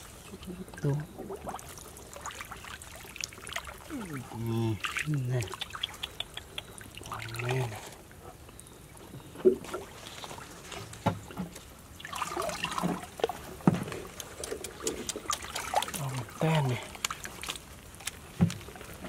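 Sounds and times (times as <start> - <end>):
stream water sloshing and splashing: 0.0 - 19.0.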